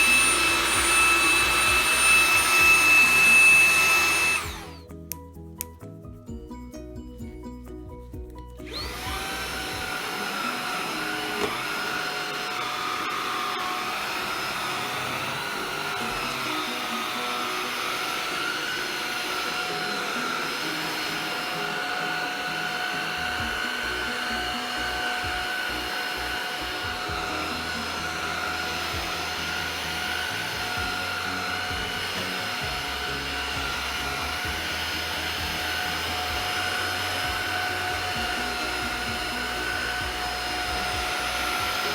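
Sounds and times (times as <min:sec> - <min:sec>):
stick vacuum running: 0:00.0 - 0:05.0, 0:08.6 - 0:41.9.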